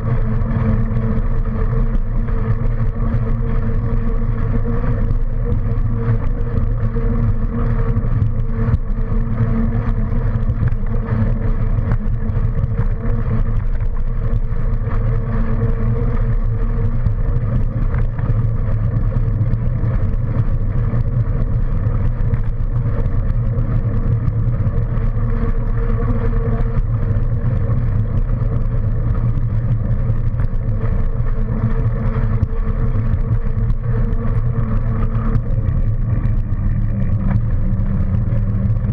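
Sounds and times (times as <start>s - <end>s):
constant hum: 0.0s - 38.9s
wind noise: 0.0s - 38.9s.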